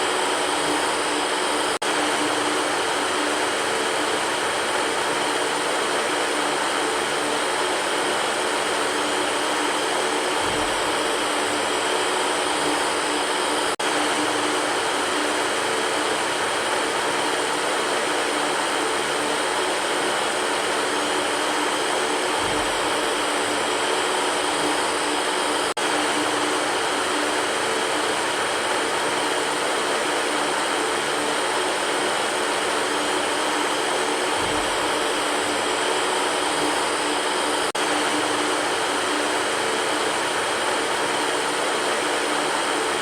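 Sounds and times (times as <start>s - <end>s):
electric fan air rush: 0.0s - 43.0s
faint motor hum: 0.0s - 43.0s.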